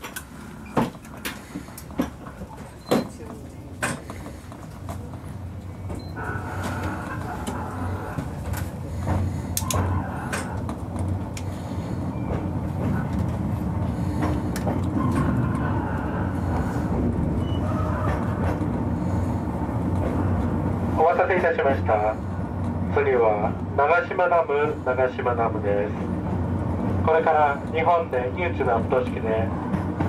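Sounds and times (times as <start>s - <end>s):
train running on track: 0.0s - 30.0s.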